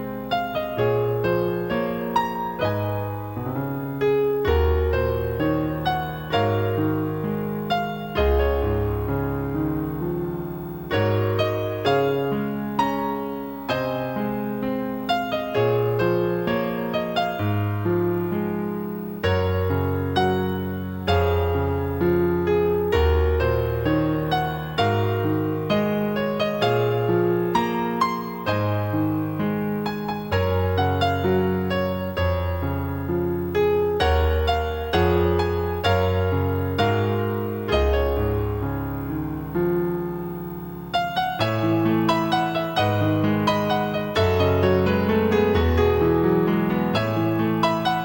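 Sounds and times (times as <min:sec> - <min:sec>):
slow electric piano music: 0:00.0 - 0:48.0.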